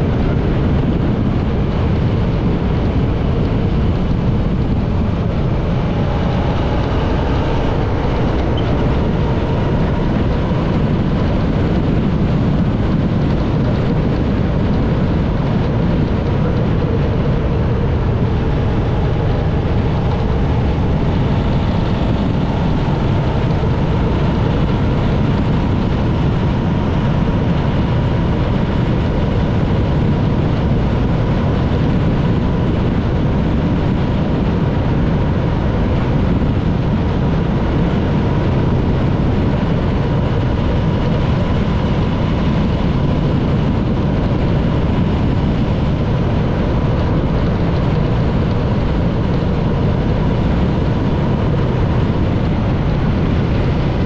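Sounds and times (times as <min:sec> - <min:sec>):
heavy wind noise: 0:00.0 - 0:54.0
motorcycle engine running: 0:00.0 - 0:54.0
road noise: 0:00.0 - 0:54.0.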